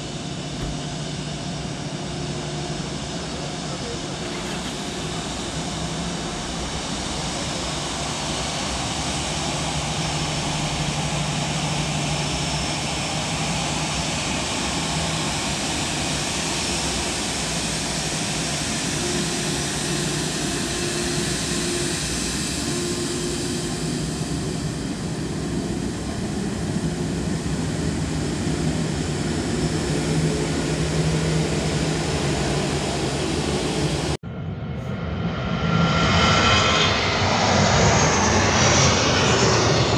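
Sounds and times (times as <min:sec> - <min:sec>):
jet engines at takeoff thrust: 0:00.0 - 0:39.9
jet engines running: 0:00.0 - 0:39.9.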